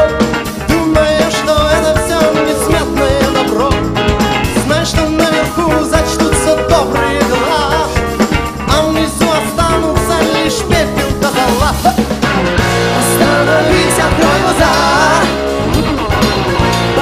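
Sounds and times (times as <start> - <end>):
drum kit: 0.0 - 17.0
electric bass: 0.0 - 17.0
man singing lead: 0.0 - 17.0
rock band playing live: 0.0 - 17.0.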